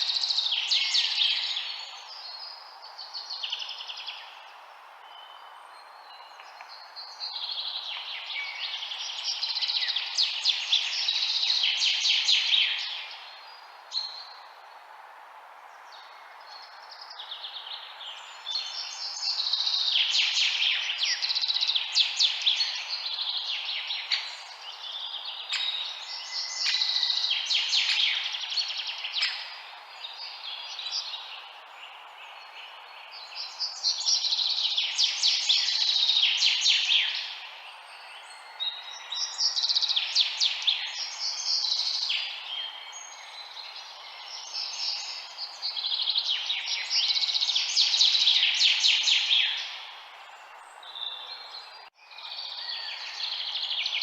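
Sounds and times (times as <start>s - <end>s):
low background hiss: 0.0s - 54.0s
songbirds chirping: 0.0s - 54.0s.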